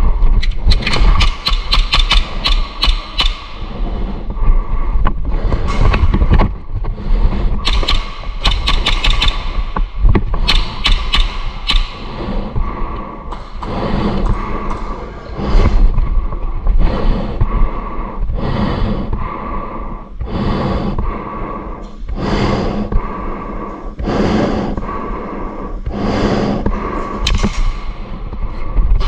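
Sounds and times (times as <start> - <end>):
heavy breathing through gas mask: 0.0 - 29.0.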